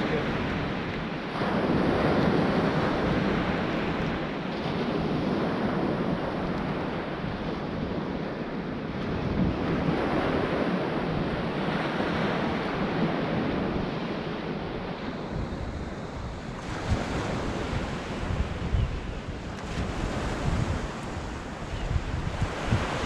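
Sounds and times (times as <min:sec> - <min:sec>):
sea surf washing onto beach: 0:00.0 - 0:23.0
wind buffeting microphone: 0:00.0 - 0:23.0.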